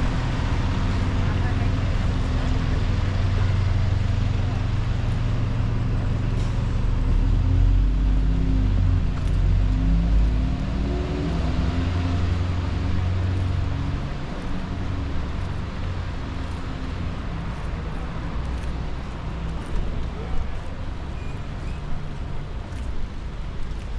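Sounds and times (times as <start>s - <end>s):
street noise: 0.0s - 23.9s
vehicle engine rumbling: 0.0s - 23.9s.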